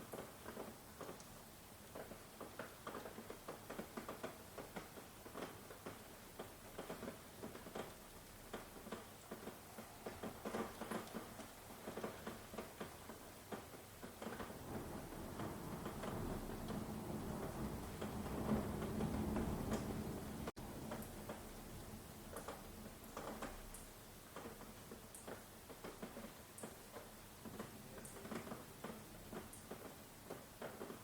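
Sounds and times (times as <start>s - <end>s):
raindrops ticking and pattering: 0.0s - 31.0s.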